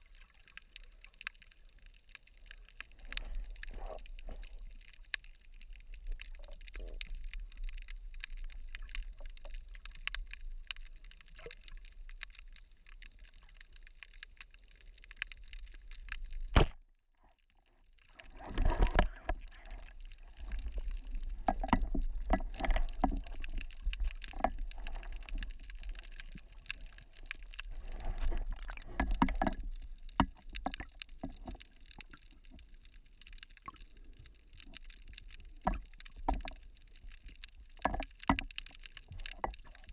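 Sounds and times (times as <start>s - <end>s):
muffled underwater wash: 0.0s - 39.9s
water sloshing and bubbling: 0.0s - 39.9s.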